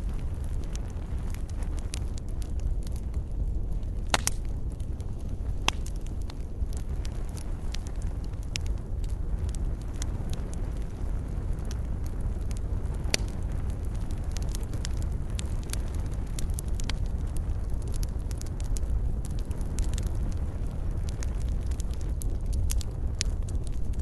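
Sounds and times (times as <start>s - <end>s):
campfire burning: 0.0s - 24.0s
crackles and pops of burning wood: 0.0s - 24.0s.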